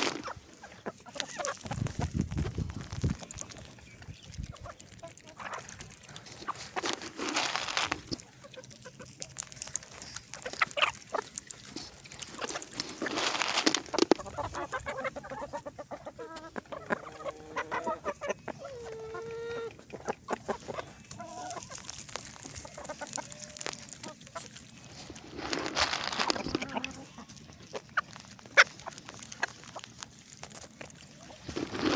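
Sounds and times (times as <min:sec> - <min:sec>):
chicken calls: 0:00.0 - 0:31.9
chickens clucking: 0:00.0 - 0:31.9.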